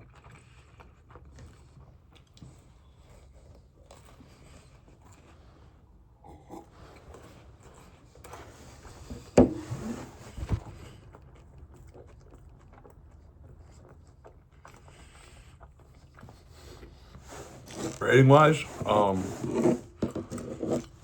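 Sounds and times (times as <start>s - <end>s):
person chewing donut: 0.0s - 9.4s, 10.5s - 19.2s.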